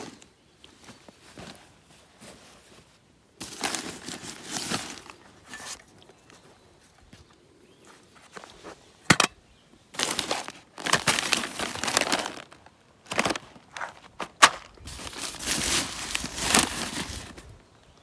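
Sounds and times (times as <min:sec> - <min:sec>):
pouches crinkling and rustling: 0:00.0 - 0:18.0.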